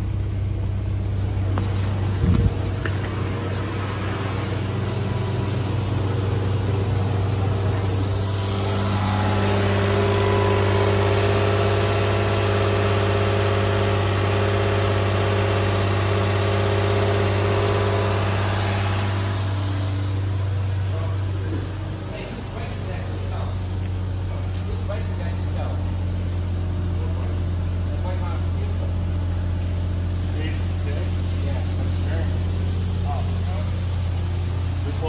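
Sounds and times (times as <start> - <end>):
car engine idling: 0.0 - 35.0
loud hiss and whir: 0.0 - 35.0.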